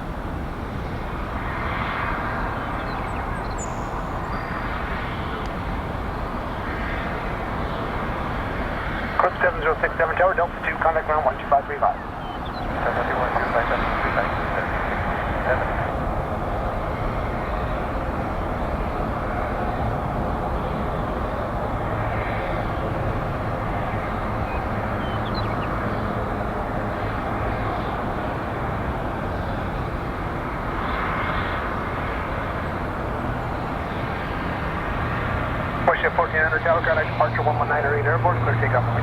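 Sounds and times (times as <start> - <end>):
jet aircraft engine noise: 0.0 - 39.0.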